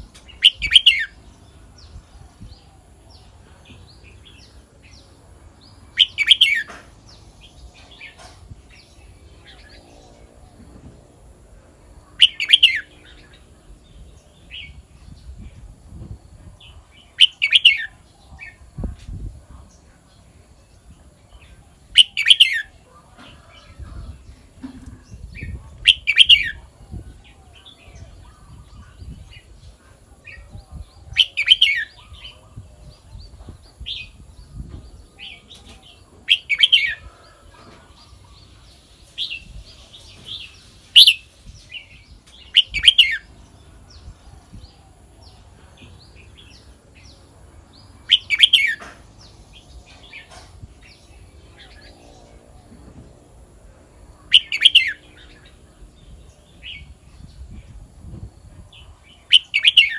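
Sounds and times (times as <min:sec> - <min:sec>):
bird singing rapid phrases: 0:00.0 - 0:10.1, 0:12.1 - 0:15.5, 0:16.6 - 0:20.6, 0:21.3 - 0:22.8, 0:25.1 - 0:29.6, 0:30.2 - 0:37.0, 0:38.0 - 0:52.3, 0:54.1 - 0:57.9, 0:58.6 - 0:59.9.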